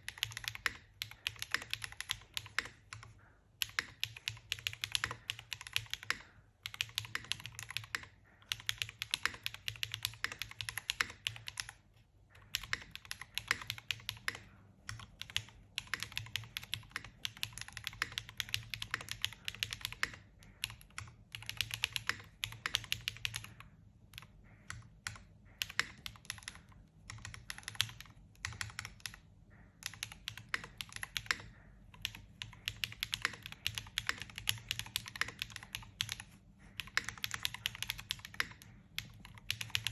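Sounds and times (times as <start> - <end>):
mechanical keyboard typing: 0.0 - 11.8, 12.4 - 39.9.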